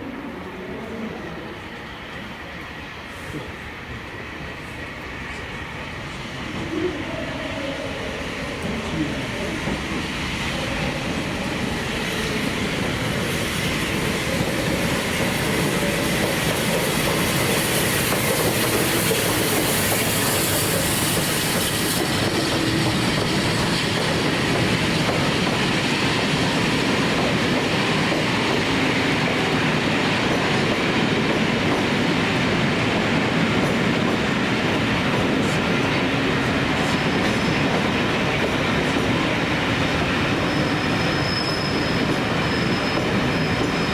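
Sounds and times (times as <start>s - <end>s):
train wheels rolling on rails: 0.0s - 43.9s.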